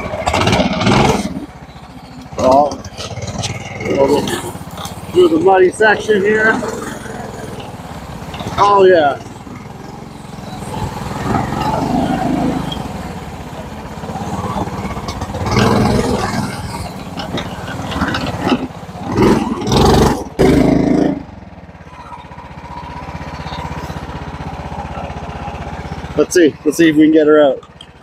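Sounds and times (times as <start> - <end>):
golf cart engine revving: 0.0 - 28.0.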